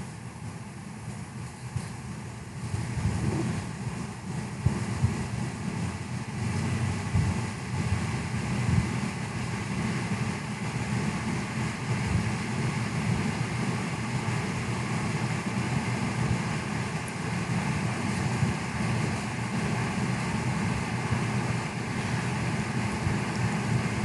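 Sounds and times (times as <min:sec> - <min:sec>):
milling machine rumbling: 0:00.0 - 0:24.0.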